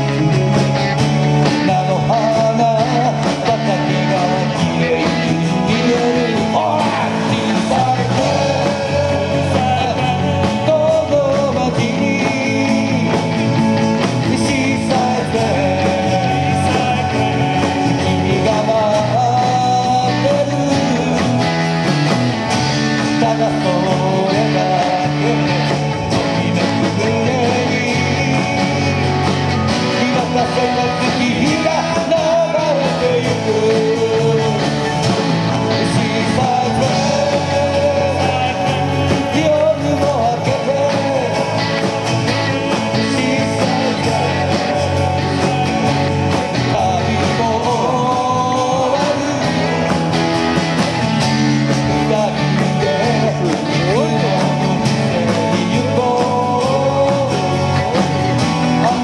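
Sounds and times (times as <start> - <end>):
group of voices singing: 0.0 - 59.0
live rock band playing: 0.0 - 59.0.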